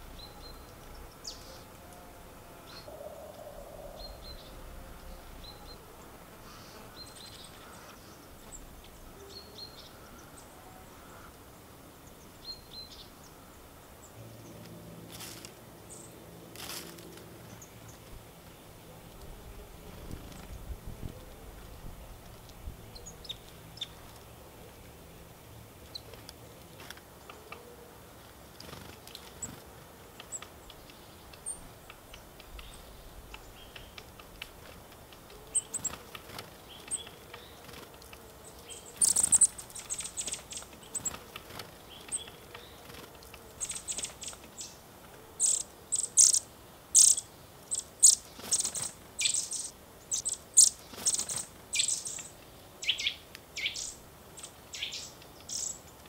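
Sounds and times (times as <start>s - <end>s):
small birds chirping: 0.0s - 1.8s, 2.6s - 56.0s.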